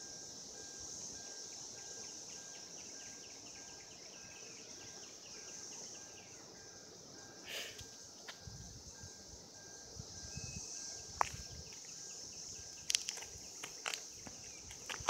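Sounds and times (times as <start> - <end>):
cicadas droning: 0.0 - 15.0
faint chirps: 0.5 - 12.9.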